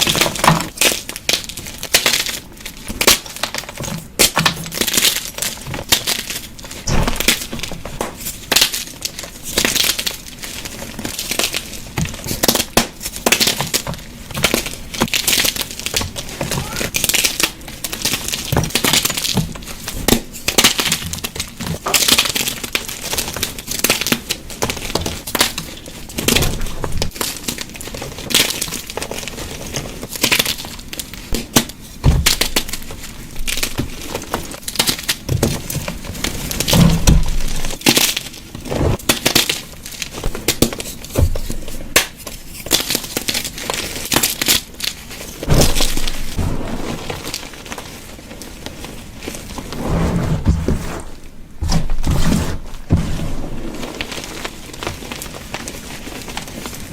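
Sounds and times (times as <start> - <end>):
chalk blocks crunching: 0.0 - 56.9.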